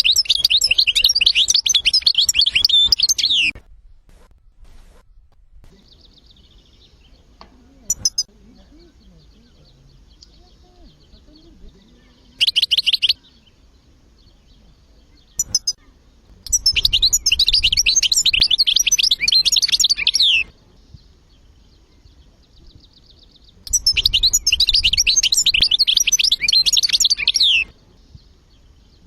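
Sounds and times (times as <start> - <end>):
goldfinch twittering song: 0.0 - 3.6, 5.7 - 29.0.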